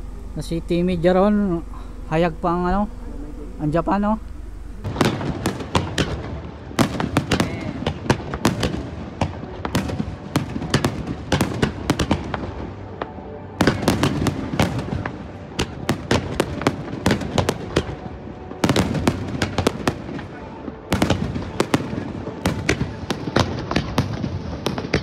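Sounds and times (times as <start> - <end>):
fireworks bangs and crackles: 4.8 - 25.0.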